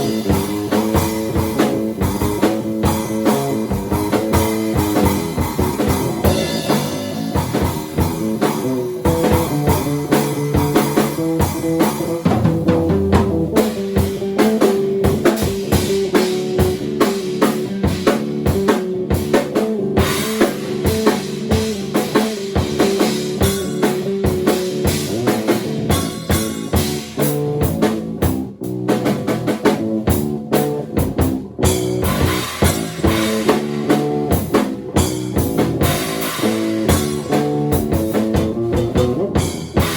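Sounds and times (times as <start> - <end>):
bass line: 0.0 - 39.9
rock drum kit: 0.0 - 39.9.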